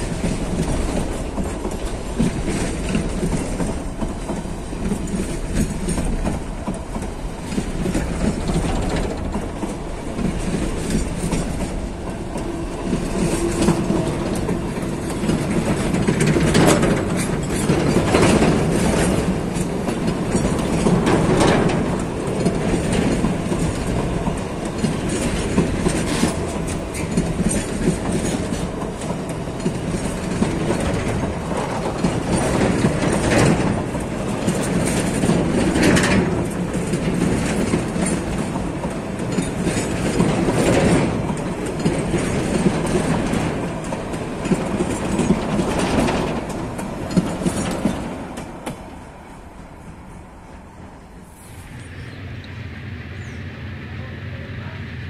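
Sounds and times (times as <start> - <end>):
wheels clacking over rail joints: 0.0 - 50.6
freight train wagons rolling: 0.0 - 52.4.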